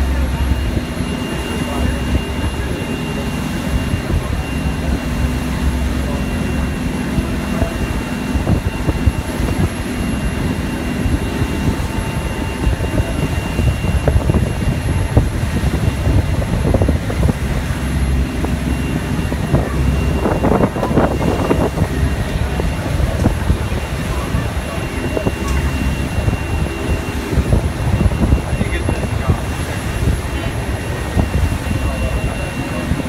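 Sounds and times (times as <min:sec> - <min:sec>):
ferry engine drone: 0:00.0 - 0:33.0.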